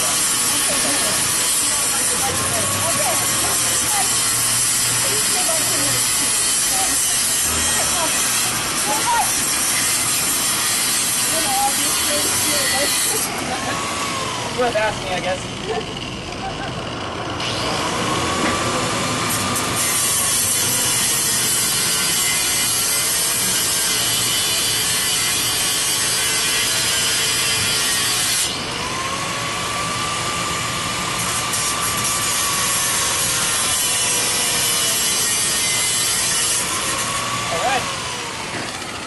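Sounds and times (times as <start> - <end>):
angle grinder cutting metal: 0.0 - 39.0.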